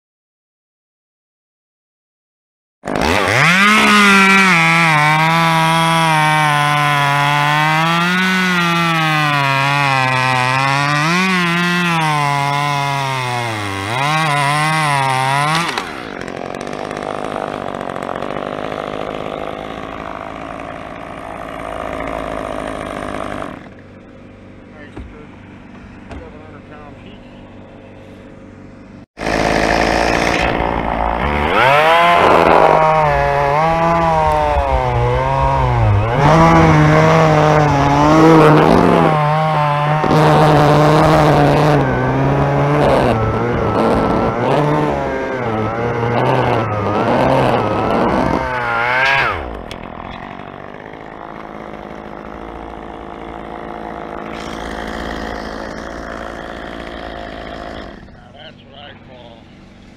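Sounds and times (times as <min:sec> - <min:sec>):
chainsaw cutting wood: 0:02.8 - 0:26.6, 0:28.0 - 0:58.5.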